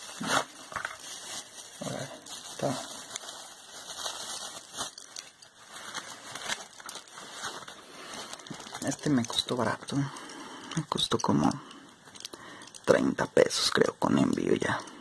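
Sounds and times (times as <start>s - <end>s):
plastic packaging crinkling: 0.0s - 14.9s.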